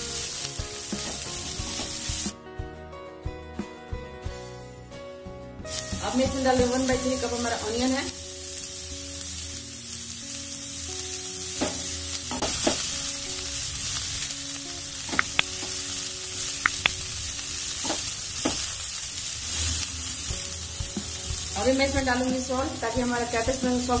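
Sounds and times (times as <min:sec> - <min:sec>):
vegetables sizzling in oil: 0:00.0 - 0:02.4, 0:05.6 - 0:24.0.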